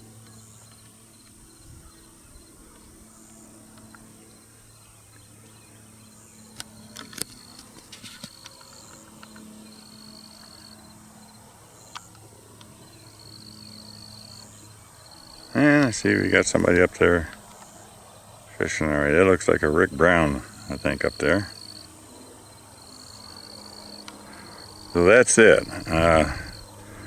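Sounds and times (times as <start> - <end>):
high-pitched whine: 0.0 - 27.0
insects trilling: 0.0 - 27.0
low steady hum: 0.0 - 27.0.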